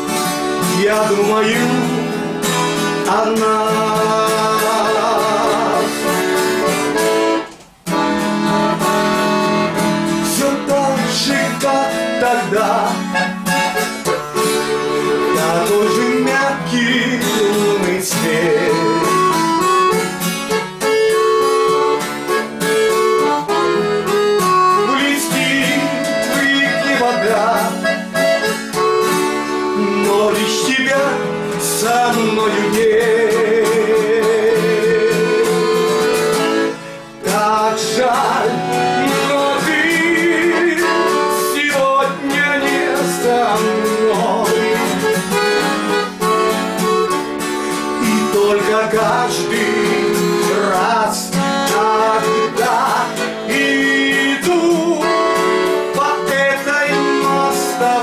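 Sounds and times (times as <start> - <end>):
acoustic guitar: 0.0 - 58.0
button accordion: 0.0 - 58.0.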